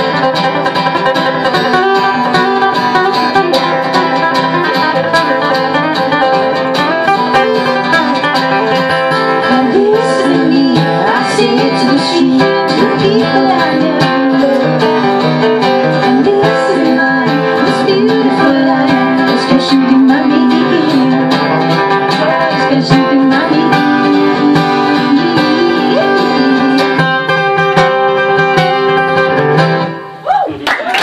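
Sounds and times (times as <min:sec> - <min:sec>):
acoustic guitars playing: 0:00.0 - 0:30.3.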